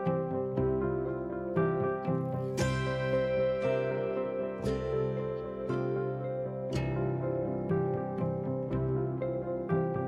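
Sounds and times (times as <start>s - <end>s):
gentle plucked instrumental music: 0.0s - 10.0s.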